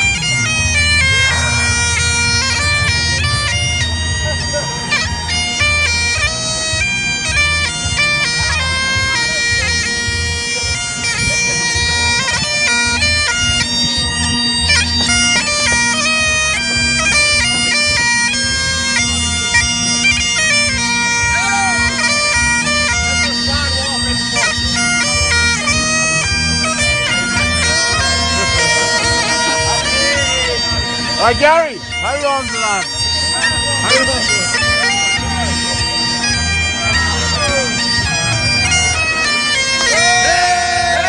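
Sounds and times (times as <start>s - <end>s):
bagpipes playing lively tune: 0.0s - 41.0s
low pulsing beat: 0.0s - 41.0s.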